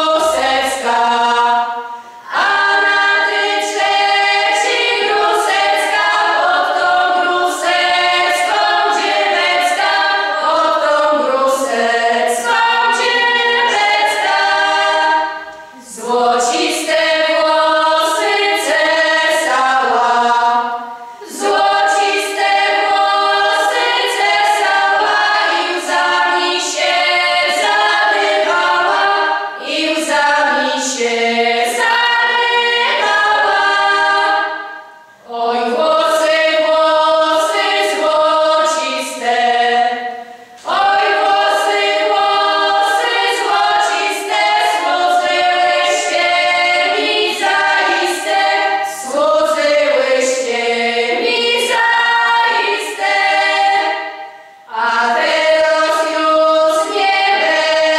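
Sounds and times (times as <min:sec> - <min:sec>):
women singing unaccompanied: 0:00.0 - 0:57.9.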